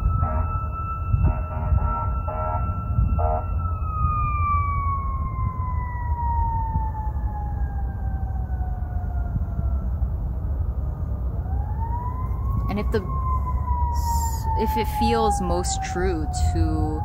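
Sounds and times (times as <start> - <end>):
siren winding down: 0.0 - 17.0.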